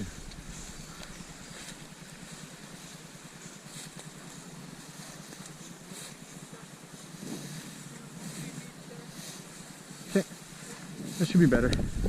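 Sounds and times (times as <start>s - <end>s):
faint rustles: 0.0s - 12.0s
outdoor background rush: 0.0s - 12.0s.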